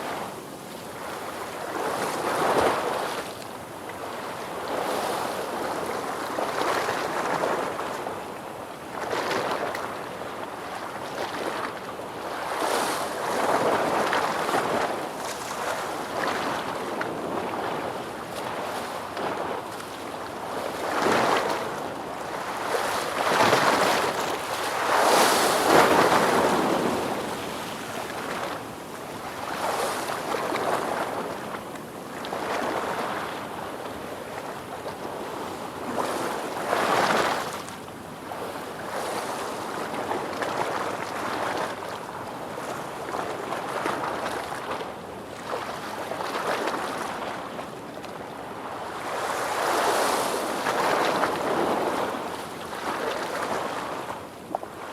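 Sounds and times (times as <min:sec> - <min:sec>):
ocean waves washing on shore: 0:00.0 - 0:54.9.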